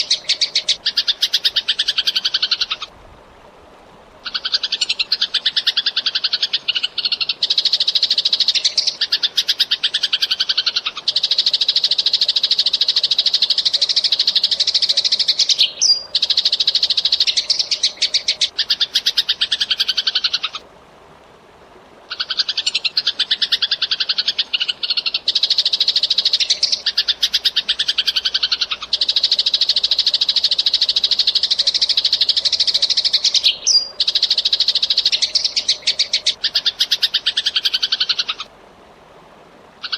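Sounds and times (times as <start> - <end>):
sparrow chirping: 4.3 - 20.5, 22.1 - 38.4.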